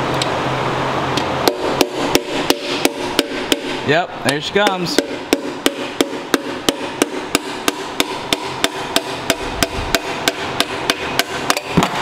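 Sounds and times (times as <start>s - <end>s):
hammer tapping on metal: 1.4s - 12.0s.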